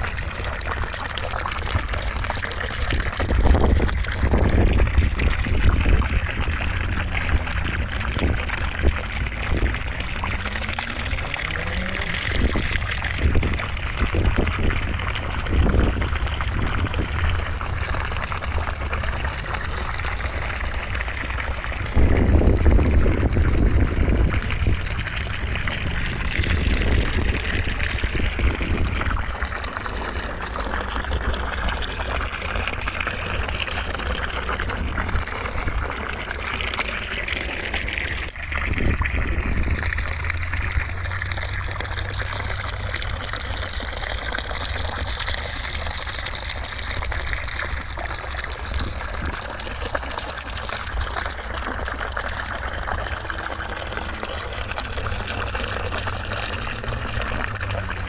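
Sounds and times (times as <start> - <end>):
gushing water: 0.0 - 58.0.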